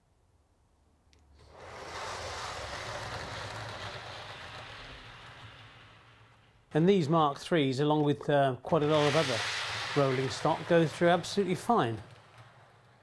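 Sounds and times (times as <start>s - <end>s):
model train coaches rolling on track: 1.4s - 13.0s.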